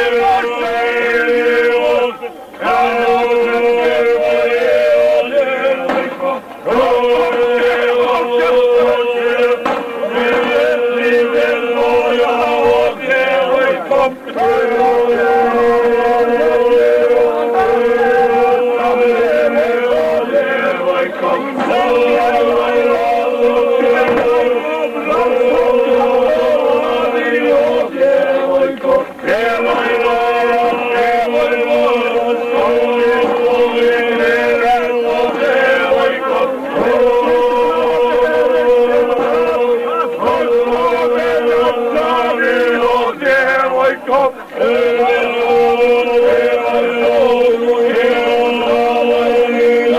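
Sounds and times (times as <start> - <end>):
men singing folk song: 0.0 - 49.9.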